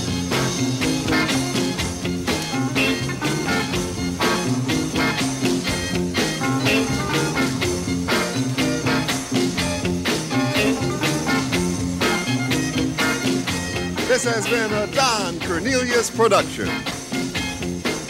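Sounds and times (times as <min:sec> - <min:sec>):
up-tempo soul music: 0:00.0 - 0:18.0.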